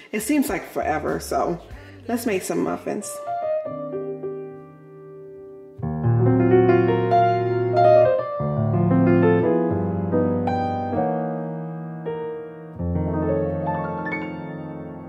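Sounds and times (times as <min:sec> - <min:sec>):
piano music: 0:00.4 - 0:15.0.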